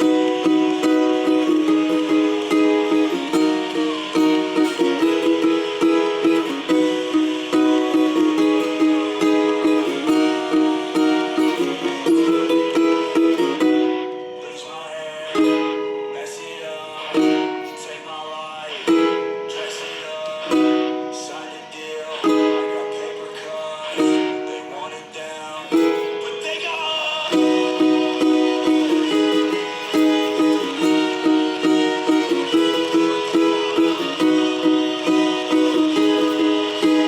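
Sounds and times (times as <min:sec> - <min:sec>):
ukulele strumming chords: 0:00.0 - 0:37.0.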